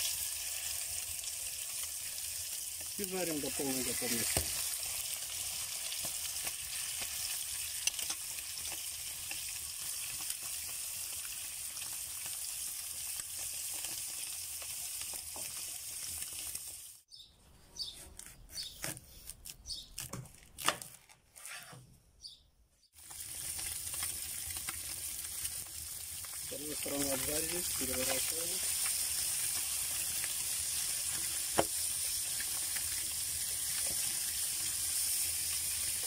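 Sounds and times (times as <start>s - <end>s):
chicken sizzling in frying pan: 0.0s - 17.1s, 23.0s - 36.0s.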